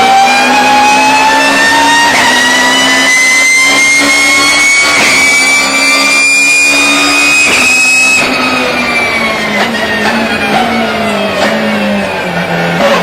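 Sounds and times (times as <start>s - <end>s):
gearbox whine: 0.0s - 13.0s
race car engine: 0.0s - 13.0s.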